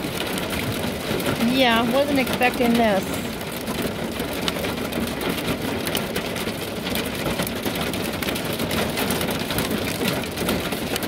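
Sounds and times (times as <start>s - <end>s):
hail and rain rattling on van: 0.0s - 11.0s.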